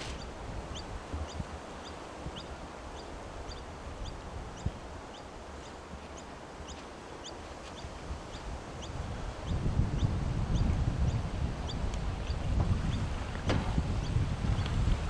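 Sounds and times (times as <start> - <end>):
bird chirping: 0.0 - 13.0
wind rumbling on microphone: 0.0 - 15.0.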